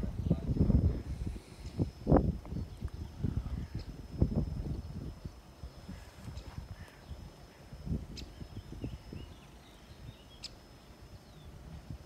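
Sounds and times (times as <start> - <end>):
wind buffeting microphone: 0.0 - 10.6
faint high chirps: 1.5 - 11.9.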